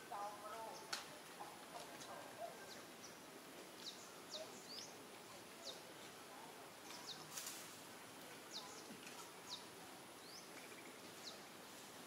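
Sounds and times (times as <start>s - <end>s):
small birds chirping: 0.0s - 7.6s, 8.3s - 12.0s
outdoor background hiss: 0.0s - 12.0s.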